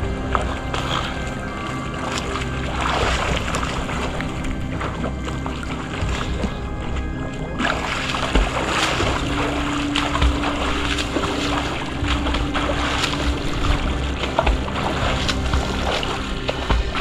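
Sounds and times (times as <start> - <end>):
background music: 0.0 - 17.0
lake water lapping: 0.0 - 17.0.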